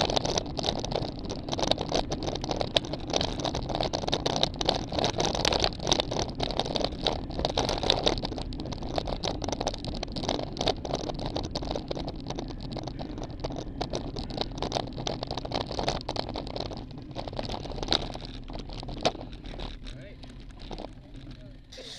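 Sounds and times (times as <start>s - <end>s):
bicycle tyre road noise: 0.0s - 21.9s
wind noise: 0.0s - 21.9s.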